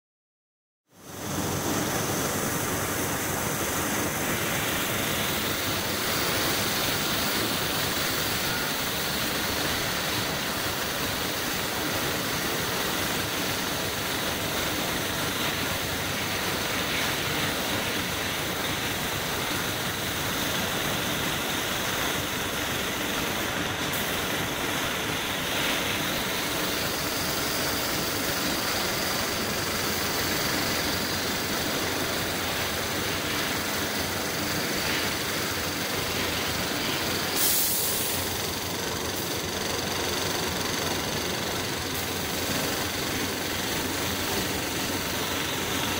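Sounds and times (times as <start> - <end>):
paint spray gun hissing: 3.2 - 45.9.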